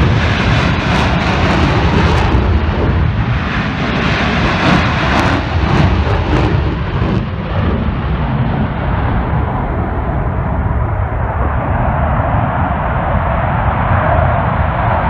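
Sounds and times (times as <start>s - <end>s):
jet engines taking off: 0.0s - 15.0s.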